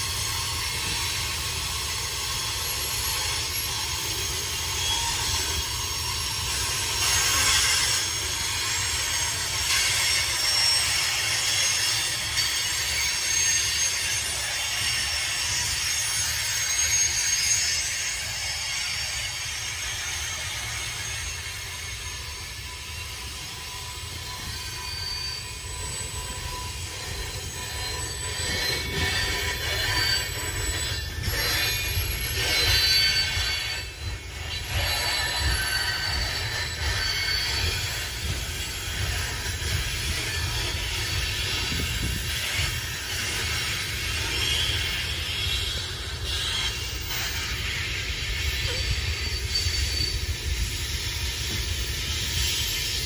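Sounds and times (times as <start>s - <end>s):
train wheels rumbling on rail: 0.0s - 53.0s
high-pitched wheel squeals: 0.1s - 53.0s.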